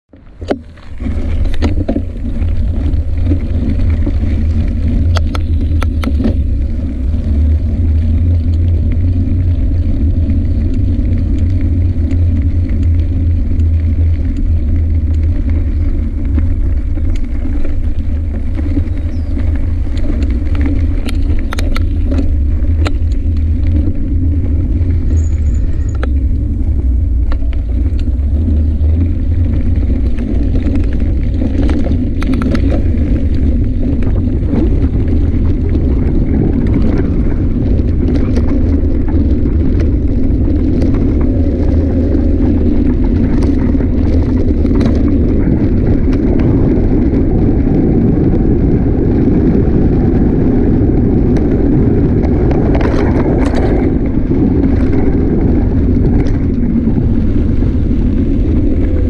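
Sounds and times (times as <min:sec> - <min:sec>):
bicycle tyre rumble on dirt: 0:00.0 - 0:59.0
bicycle clicks and rattles: 0:00.1 - 0:59.0.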